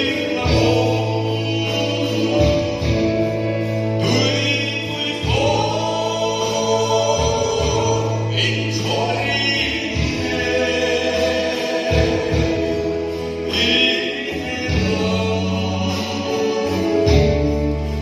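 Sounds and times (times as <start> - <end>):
band accompaniment: 0.0 - 18.0
men singing in harmony: 0.0 - 18.0.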